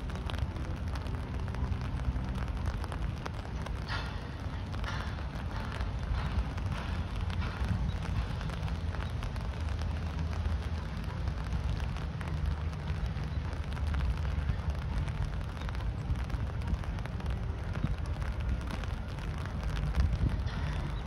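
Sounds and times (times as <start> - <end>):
steady rain pattering: 0.0 - 21.0.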